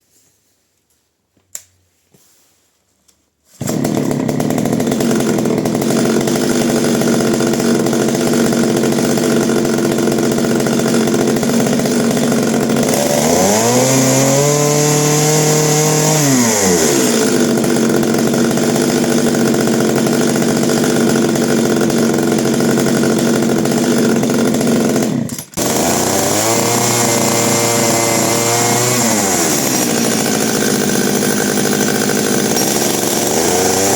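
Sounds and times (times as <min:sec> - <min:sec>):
chainsaw engine running: 0:03.6 - 0:33.9.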